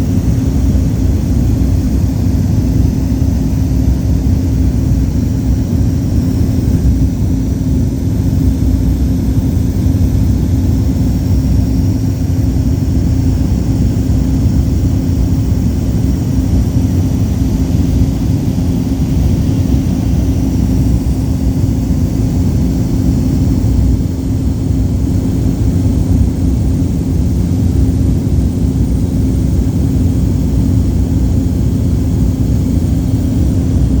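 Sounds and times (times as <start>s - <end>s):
propeller low hum: 0.0s - 34.0s
turboprop engine rumble: 0.0s - 34.0s.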